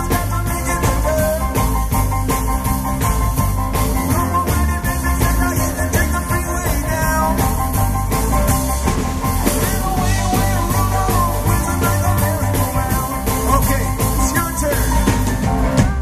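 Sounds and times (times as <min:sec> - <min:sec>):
bass guitar: 0:00.0 - 0:16.0
drum kit beat: 0:00.0 - 0:16.0
electric guitars: 0:00.0 - 0:16.0.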